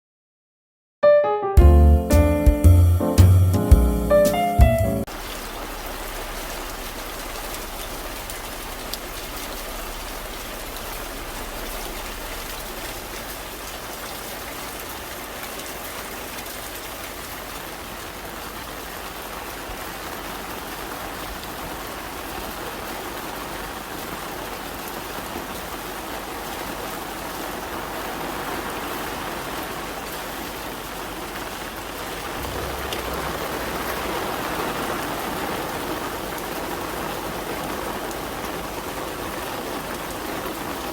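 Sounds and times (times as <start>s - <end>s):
steady rain: 2.4s - 40.9s.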